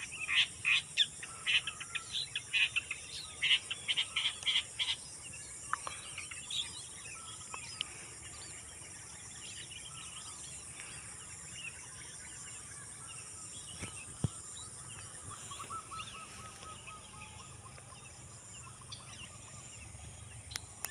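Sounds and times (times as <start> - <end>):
birds chirping and warbling: 0.0 - 20.9
insects chorus: 0.0 - 20.9.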